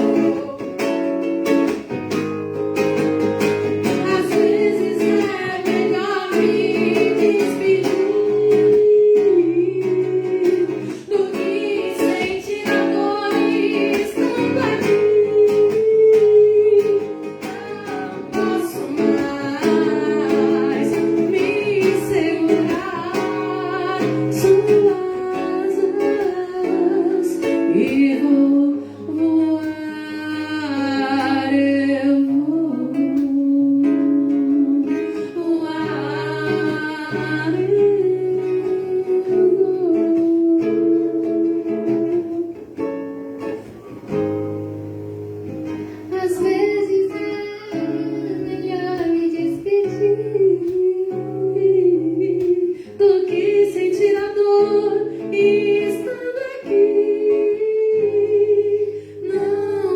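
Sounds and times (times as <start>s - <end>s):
person singing: 0.0s - 1.9s, 2.8s - 44.2s, 45.7s - 59.9s
acoustic guitar strummed and plucked: 0.0s - 59.9s.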